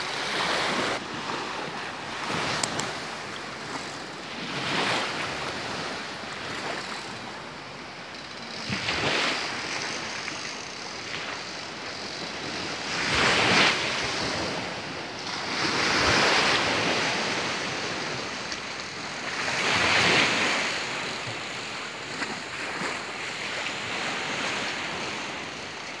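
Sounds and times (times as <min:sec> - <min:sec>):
small waves lapping: 0:00.0 - 0:26.0.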